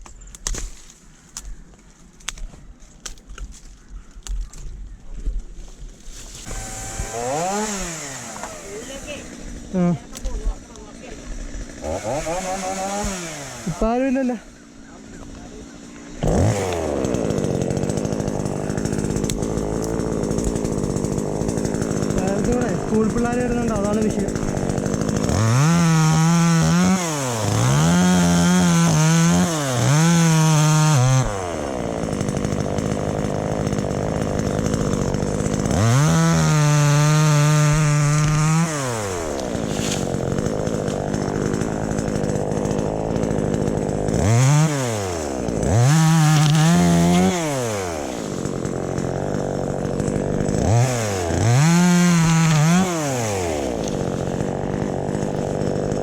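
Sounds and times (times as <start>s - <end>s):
chainsaw idling: 6.4s - 56.0s
chainsaw revving: 6.4s - 56.0s.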